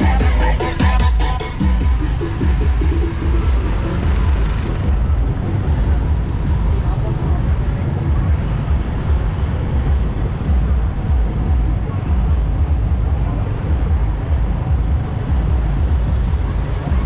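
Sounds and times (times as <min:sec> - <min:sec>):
cars passing: 0:00.0 - 0:17.0
heavy low rumble: 0:00.0 - 0:17.0
motorbikes passing: 0:00.0 - 0:17.0.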